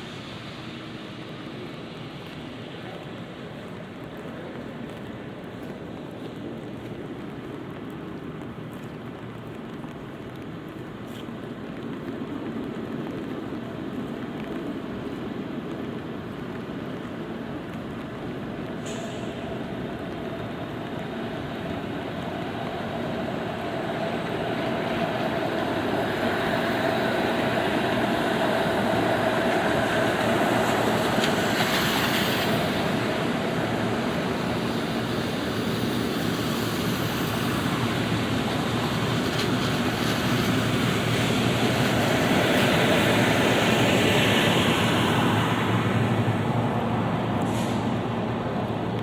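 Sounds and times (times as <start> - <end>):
light rain hiss: 0.0 - 49.0
traffic on wet pavement: 0.0 - 49.0.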